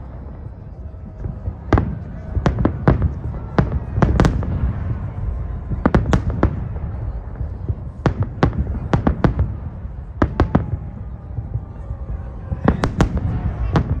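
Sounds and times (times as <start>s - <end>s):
fireworks bangs: 0.0s - 14.0s
low rumble: 0.0s - 14.0s.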